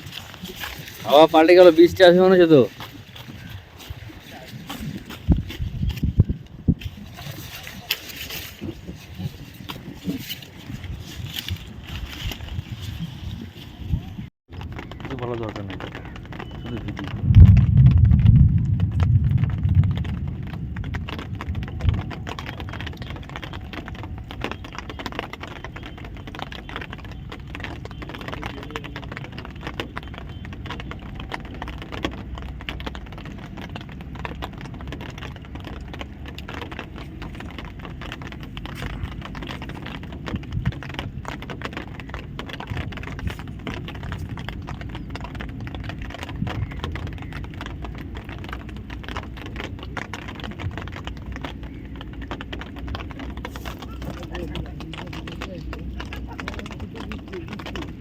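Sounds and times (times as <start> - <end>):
light rain pattering: 0.0 - 58.0
wind rumble on microphone: 0.0 - 58.0.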